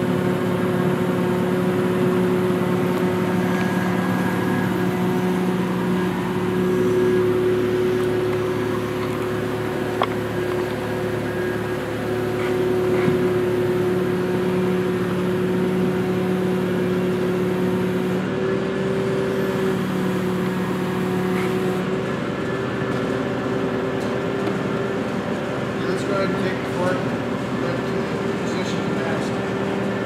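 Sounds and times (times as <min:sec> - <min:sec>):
forklift engine running: 0:00.0 - 0:30.0.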